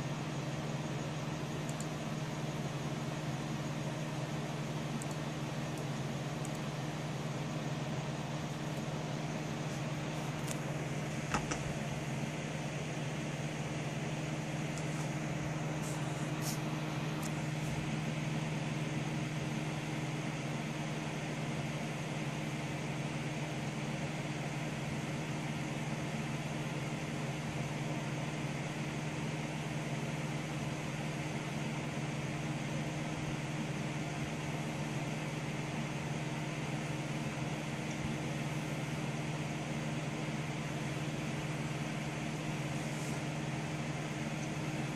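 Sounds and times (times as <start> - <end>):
computer fan whir and hum: 0.0 - 44.9.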